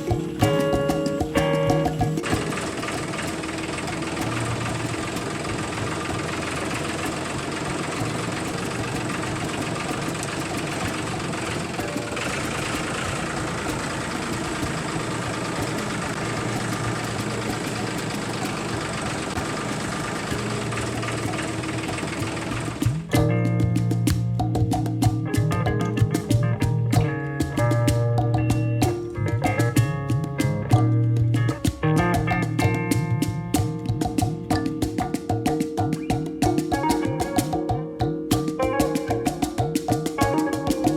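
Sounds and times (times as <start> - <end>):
small engine ticking: 0.0 - 40.9.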